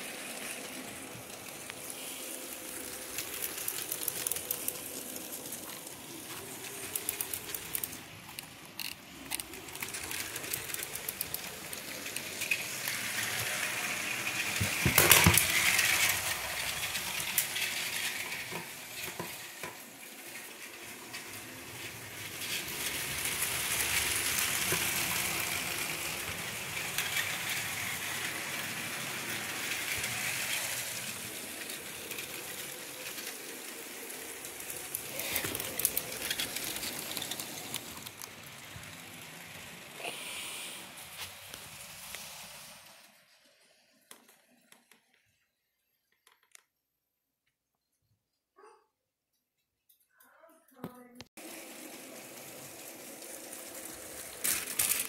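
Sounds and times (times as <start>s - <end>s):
toy train whirring on track: 0.0s - 45.4s, 51.4s - 55.0s.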